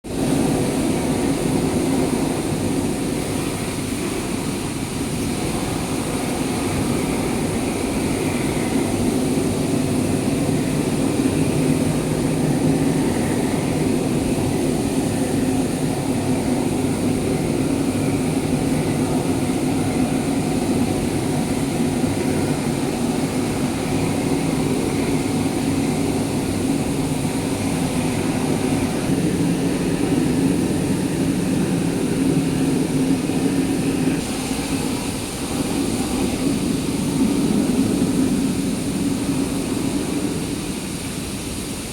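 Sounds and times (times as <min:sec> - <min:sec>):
blast furnace rushing noise: 0:00.0 - 0:41.9.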